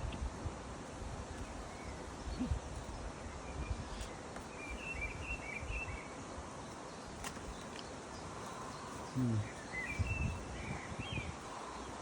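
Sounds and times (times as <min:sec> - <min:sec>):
steady background hiss: 0:00.0 - 0:12.0
bird chirping: 0:01.3 - 0:12.0.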